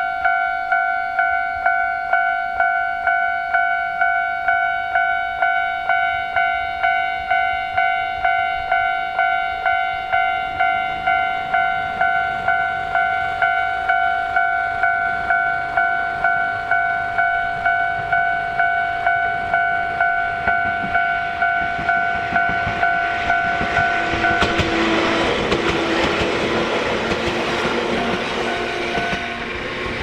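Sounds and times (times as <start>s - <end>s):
railroad crossing bell ringing: 0.0s - 30.0s.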